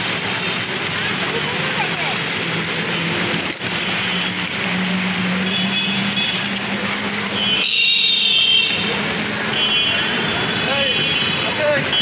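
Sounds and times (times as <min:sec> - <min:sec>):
traffic rushing through water: 0:00.0 - 0:12.0.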